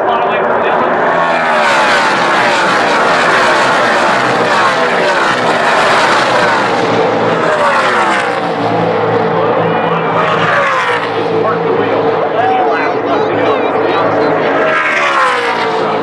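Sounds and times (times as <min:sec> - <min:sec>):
race truck engines passing: 0:00.0 - 0:16.0.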